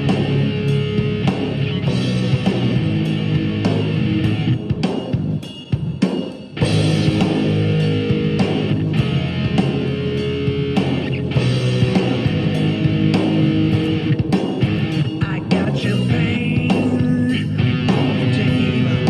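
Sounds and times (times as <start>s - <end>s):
band backing: 0.0s - 19.0s
electric guitar rock part: 0.0s - 19.0s.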